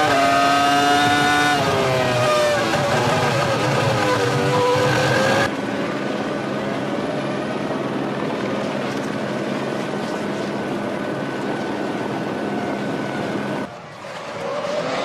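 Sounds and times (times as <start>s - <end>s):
engine drone with high whine: 0.0s - 15.0s
race car engine: 0.0s - 15.0s.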